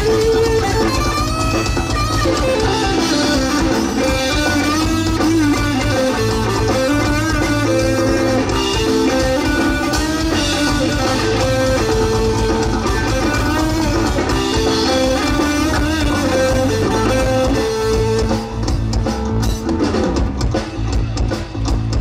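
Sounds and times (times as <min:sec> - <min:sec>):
drums: 0:00.0 - 0:22.0
electric bass: 0:00.0 - 0:22.0
electric guitar melodic lines: 0:00.0 - 0:22.0.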